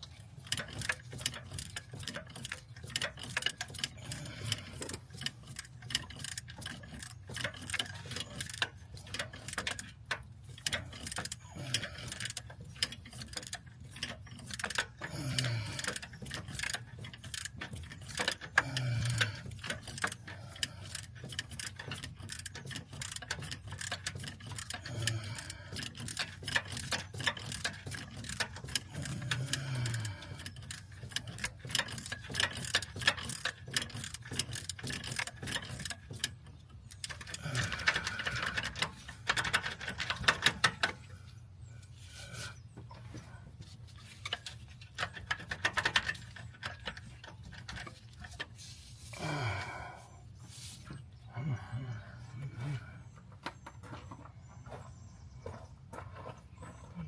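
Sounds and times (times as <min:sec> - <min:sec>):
hand ratchet clicking: 0:00.4 - 0:41.0, 0:44.0 - 0:49.8.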